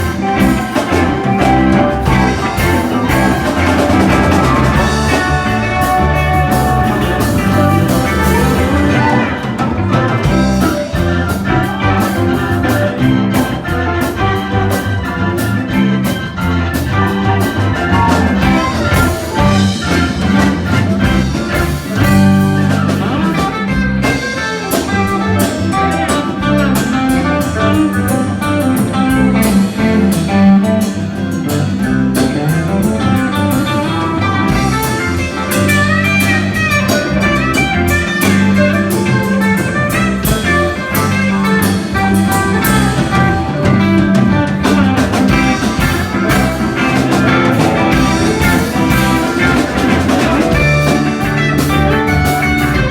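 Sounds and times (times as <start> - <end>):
blues-rock band playing: 0.0 - 52.9.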